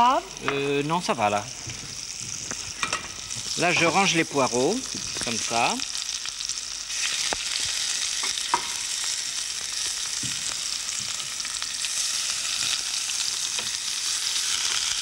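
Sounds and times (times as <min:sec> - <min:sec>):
vegetables sizzling in butter: 0:00.0 - 0:15.0.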